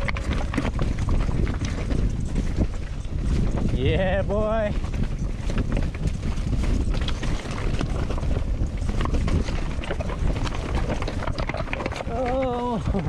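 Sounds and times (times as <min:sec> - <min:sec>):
bike rattling: 0:00.0 - 0:13.0
tyres crunching over stones: 0:00.0 - 0:13.0
wind on microphone: 0:00.0 - 0:13.0.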